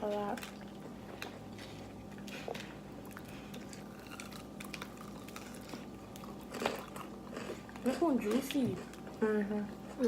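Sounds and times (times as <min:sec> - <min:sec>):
steady low hum: 0:00.0 - 0:10.0
person chewing crispy food: 0:00.3 - 0:09.2.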